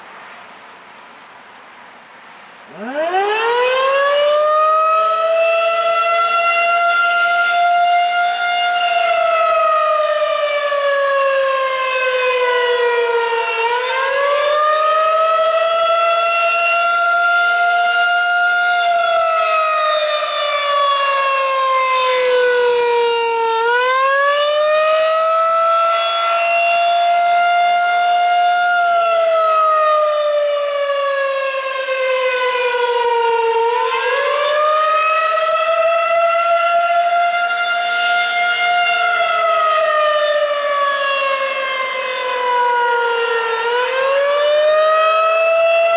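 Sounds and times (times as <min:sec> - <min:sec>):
warning siren wailing: 0:02.7 - 0:45.9.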